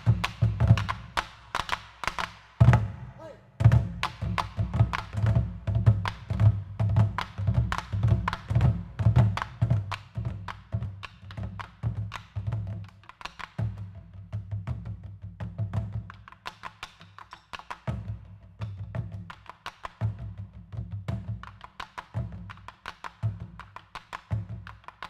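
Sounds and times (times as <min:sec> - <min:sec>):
drums beaten in steady rhythm: 0:00.0 - 0:24.9.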